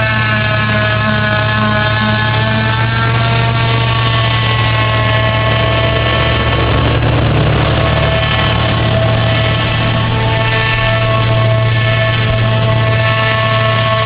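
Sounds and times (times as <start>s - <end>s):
forage harvester running: 0.0s - 14.0s
tractor engine running: 0.0s - 14.0s.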